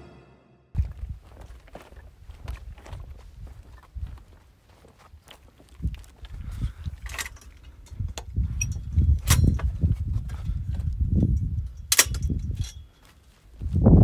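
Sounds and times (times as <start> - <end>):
wind buffeting microphone: 0.8 - 4.4, 5.7 - 12.8, 13.5 - 14.0
footsteps on stony trail: 0.8 - 11.7, 12.8 - 14.0.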